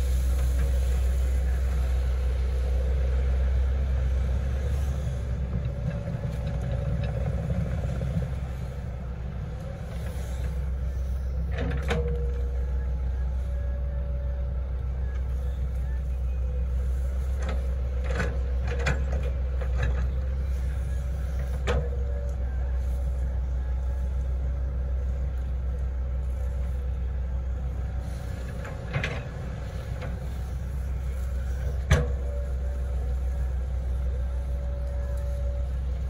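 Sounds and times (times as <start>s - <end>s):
excavator diesel engine: 0.0s - 36.0s
faint whine: 0.0s - 36.0s.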